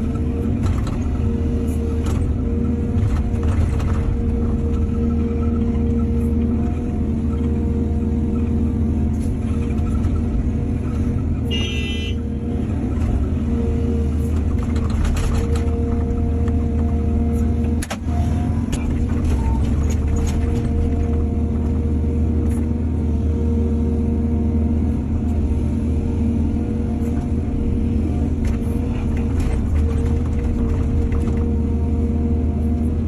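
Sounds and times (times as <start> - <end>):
excavator engine droning: 0.0 - 33.0.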